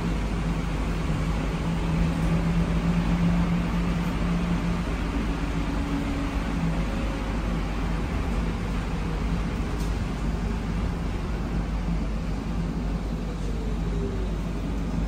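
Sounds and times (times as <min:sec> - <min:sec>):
bus rumble and road noise: 0:00.0 - 0:15.0.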